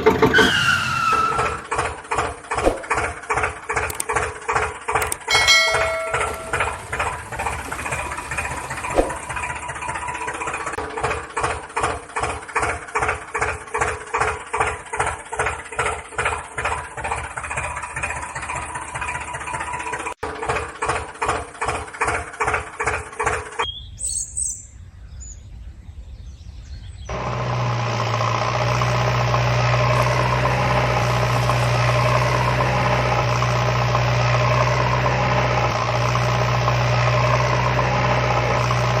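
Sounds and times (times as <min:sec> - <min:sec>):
diesel tractor engine chugging: 0:00.0 - 0:23.7, 0:27.1 - 0:39.0
engine drone: 0:00.0 - 0:23.7, 0:27.1 - 0:39.0.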